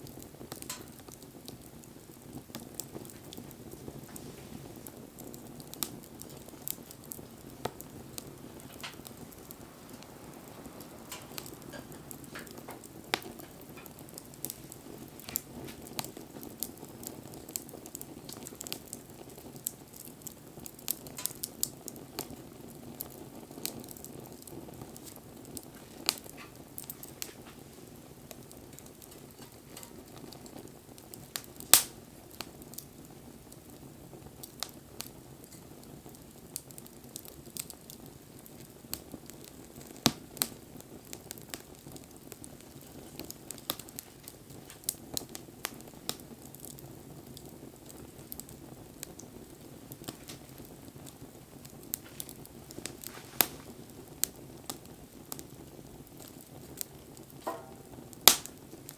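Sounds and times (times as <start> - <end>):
low steady rush of fire: 0.0 - 58.9
wood fire crackling and popping: 0.0 - 58.9.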